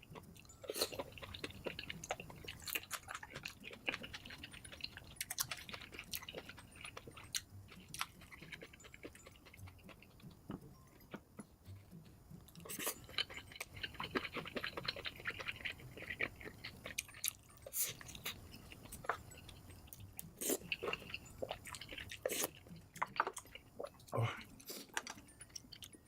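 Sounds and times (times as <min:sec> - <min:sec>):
chewing and biting: 0:00.1 - 0:26.0.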